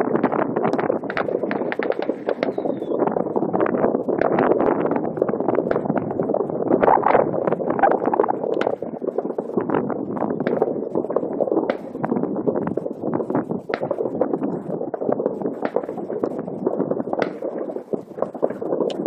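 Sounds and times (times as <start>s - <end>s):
fireworks popping and banging: 0.0s - 19.0s.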